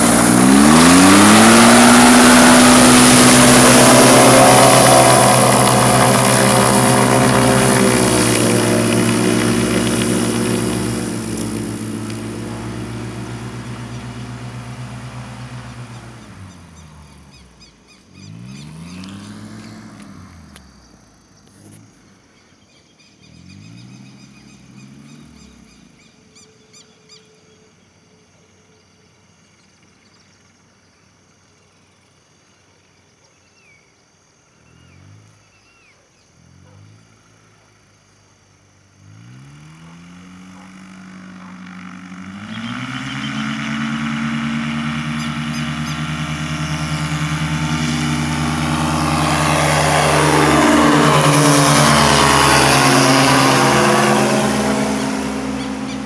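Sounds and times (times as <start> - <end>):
ultralight aircraft engine: 0.0 - 27.9, 38.6 - 56.0.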